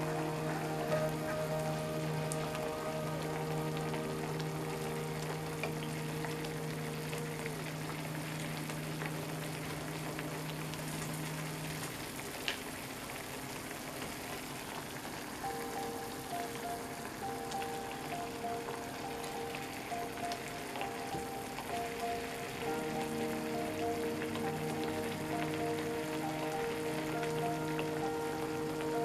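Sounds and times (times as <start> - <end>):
broth bubbling in a pan: 0.0 - 29.0
soft background music: 0.0 - 29.0.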